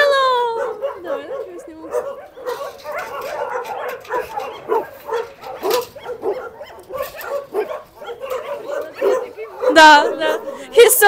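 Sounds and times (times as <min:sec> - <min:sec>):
dogs barking: 0:00.2 - 0:11.0.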